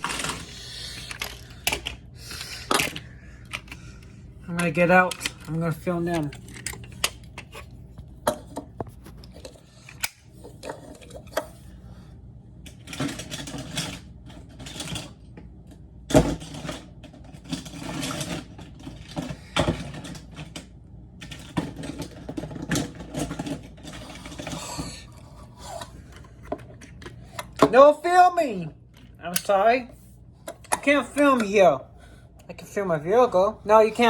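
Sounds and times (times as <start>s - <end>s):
toys rustling and scraping: 0.0s - 11.8s, 16.3s - 31.8s.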